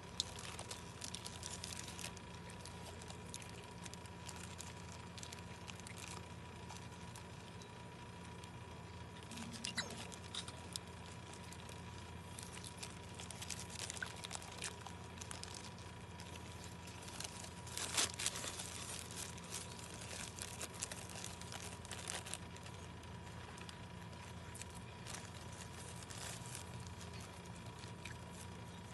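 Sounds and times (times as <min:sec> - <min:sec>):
crunchy eating sounds: 0:00.0 - 0:28.9
faint steady hum: 0:00.0 - 0:28.9.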